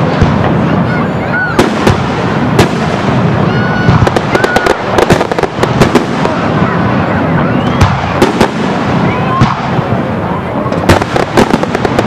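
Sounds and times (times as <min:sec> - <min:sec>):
fireworks crackling: 0:00.0 - 0:12.0
fireworks rumbling bursts: 0:00.0 - 0:12.0.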